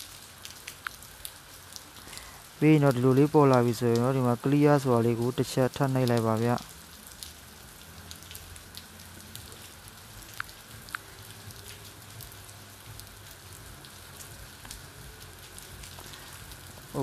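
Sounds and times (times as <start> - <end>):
steady hiss with crackles: 0.0 - 17.0.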